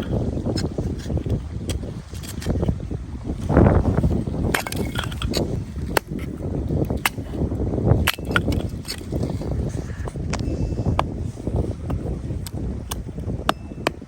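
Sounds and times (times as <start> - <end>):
low rumbling noise: 0.0 - 14.0.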